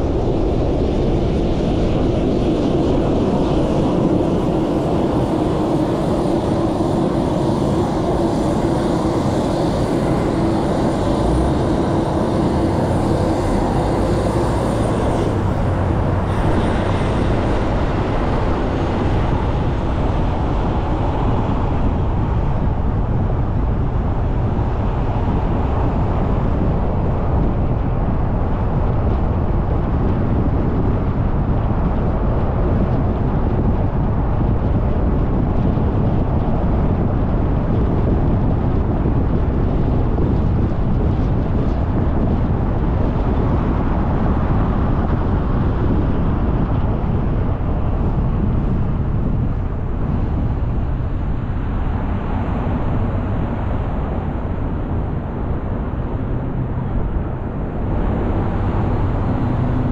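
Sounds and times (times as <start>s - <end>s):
car road and wind noise: 0.0s - 59.9s
low hum: 0.0s - 59.9s.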